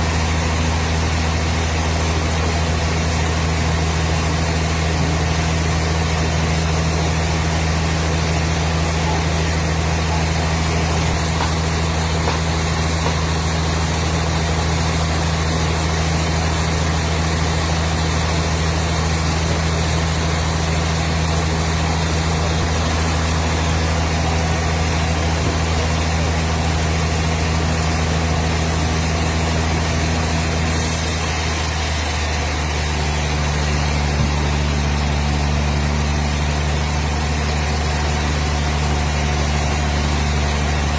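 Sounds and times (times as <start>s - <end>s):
engine running with low hum: 0.0s - 40.9s.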